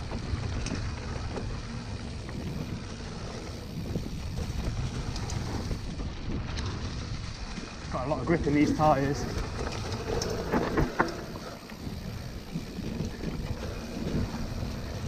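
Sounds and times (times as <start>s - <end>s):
bike rattling: 0.0s - 15.0s
tyres rumbling over dirt bumps: 0.0s - 15.0s
wind buffeting microphone: 0.0s - 15.0s.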